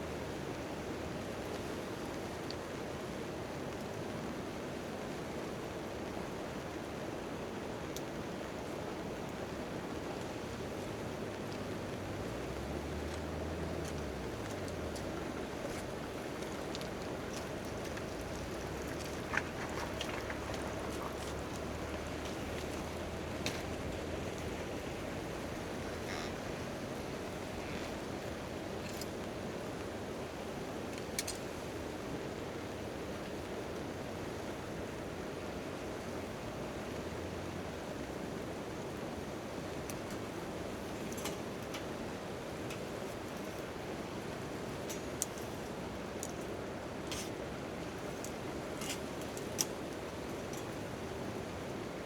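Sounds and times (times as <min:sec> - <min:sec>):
rain pattering on tent tarp: 0:00.0 - 0:52.0.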